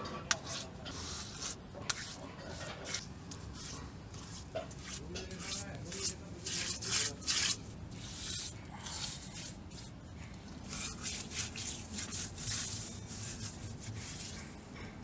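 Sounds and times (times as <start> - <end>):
hand rubbing on brick: 0.3 - 10.0, 10.6 - 14.7.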